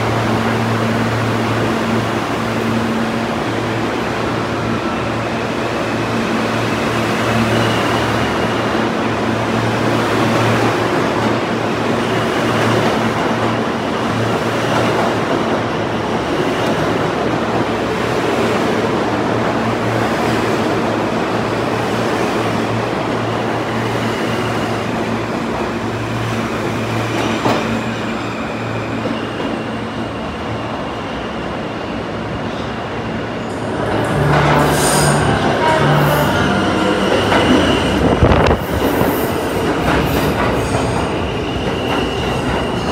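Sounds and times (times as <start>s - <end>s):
high tone of train: 0.0s - 42.9s
subway train rumbling past: 0.0s - 42.9s.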